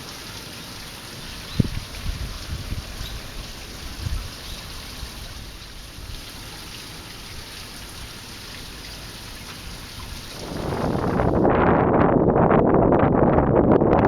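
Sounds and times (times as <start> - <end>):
running water rushing: 0.0 - 11.5
wind buffeting microphone: 1.3 - 14.0.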